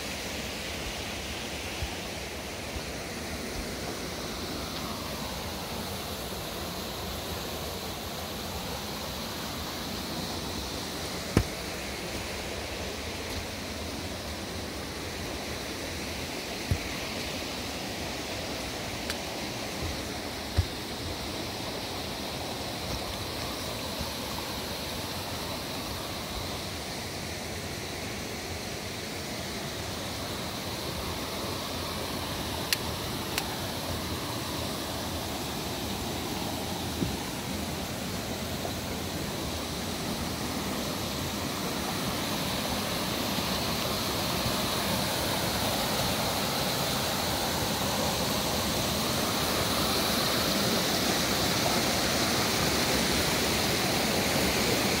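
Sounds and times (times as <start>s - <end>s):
rushing river water: 0.0s - 55.0s.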